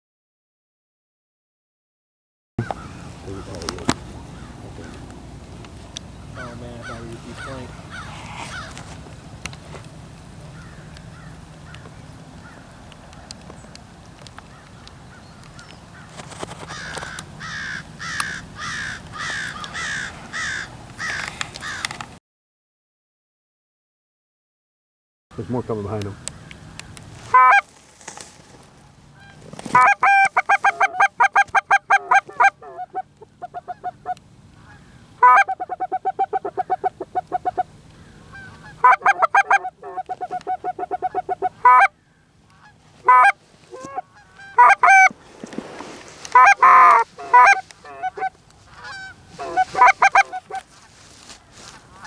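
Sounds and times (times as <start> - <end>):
geese honking: 2.6 - 22.1, 25.4 - 27.7, 28.9 - 52.0.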